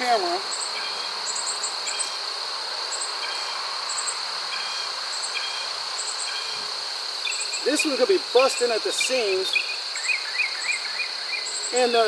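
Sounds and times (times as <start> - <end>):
insect chirps: 0.0 - 12.0
insects trilling: 0.0 - 12.0.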